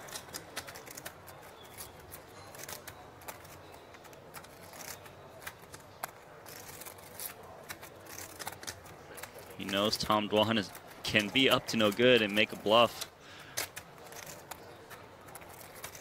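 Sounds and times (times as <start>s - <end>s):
poker chips clicking: 0.0s - 16.0s.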